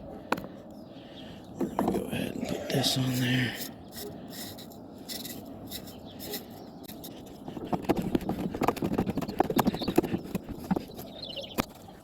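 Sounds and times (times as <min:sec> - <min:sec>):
light knocks and clatter of parts: 0:00.2 - 0:00.8, 0:01.5 - 0:12.0.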